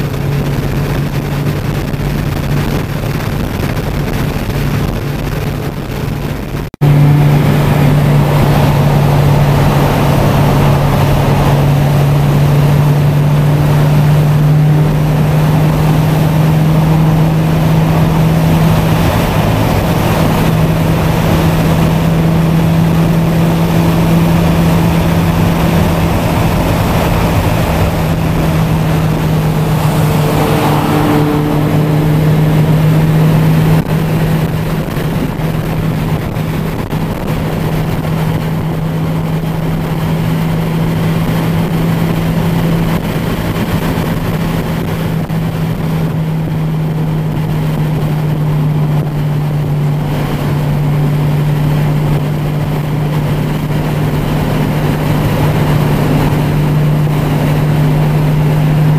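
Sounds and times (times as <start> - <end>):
car engine droning: 0.0 - 58.9
tyre and wind noise: 0.0 - 58.9.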